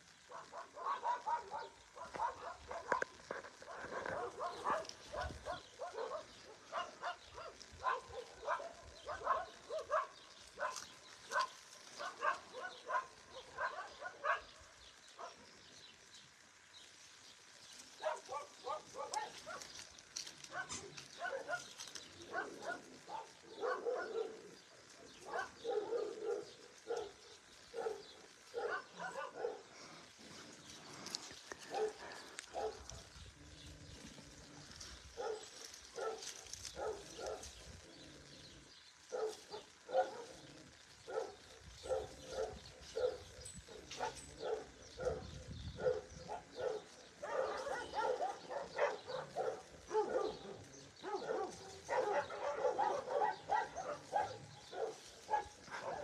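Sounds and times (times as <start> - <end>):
small dogs barking: 0.0 - 56.0.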